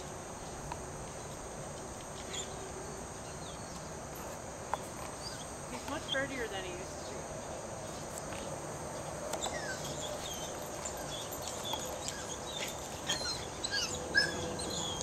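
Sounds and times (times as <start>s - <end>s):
high insect drone: 0.0s - 15.0s
small birds chirping: 2.1s - 4.0s, 4.7s - 15.0s.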